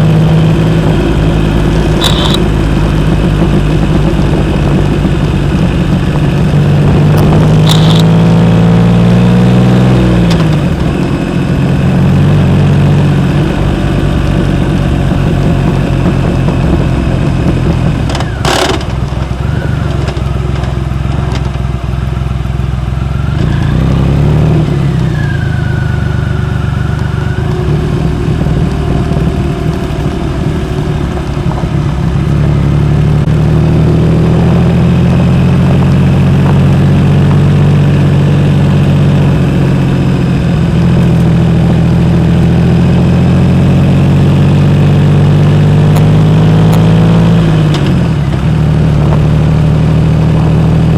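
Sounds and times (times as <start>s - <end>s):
motorcycle engine running: 0.0s - 25.0s, 25.6s - 50.9s.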